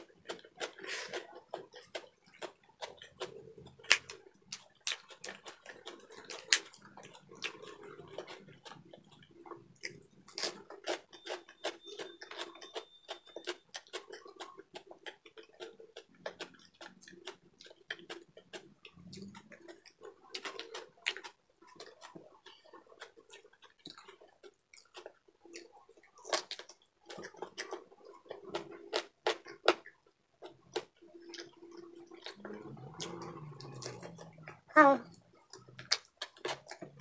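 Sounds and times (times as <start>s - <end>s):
person chewing crunchy lettuce: 0.0s - 34.6s, 35.3s - 37.0s.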